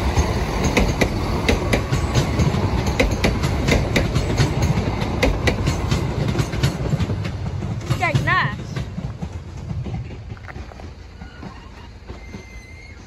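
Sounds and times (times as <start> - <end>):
train running noise: 0.0 - 13.0
wheels clicking over rail joints: 0.0 - 13.0.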